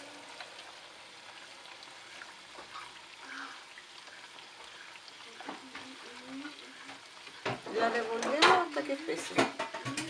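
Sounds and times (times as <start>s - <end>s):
dough frying in hot oil: 0.0s - 10.0s.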